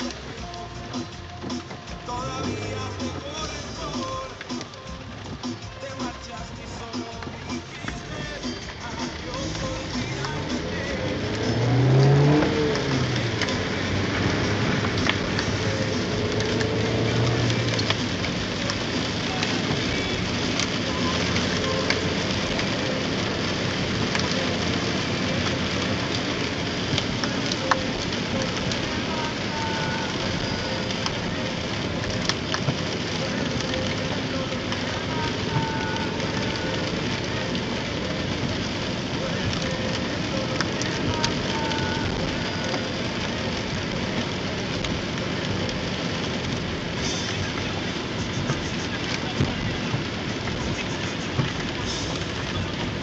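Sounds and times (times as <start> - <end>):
rain on car windshield and roof: 0.0 - 53.0
tyres hissing on wet road: 0.0 - 53.0.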